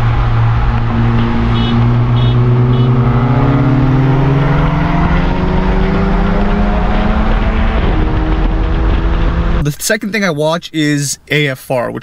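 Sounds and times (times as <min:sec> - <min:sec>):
car engine revving: 0:00.0 - 0:09.8
wind and road noise: 0:00.0 - 0:12.0.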